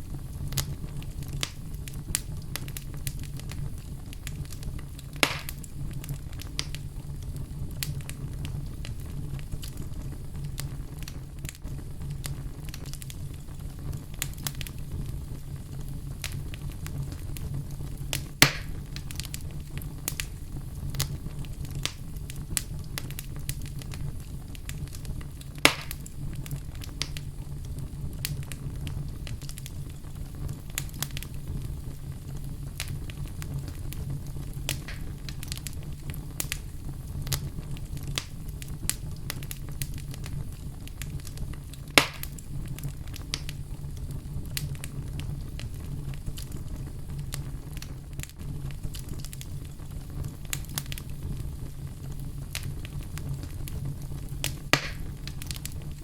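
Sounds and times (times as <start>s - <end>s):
wood fire burning in fireplace: 0.0s - 56.0s.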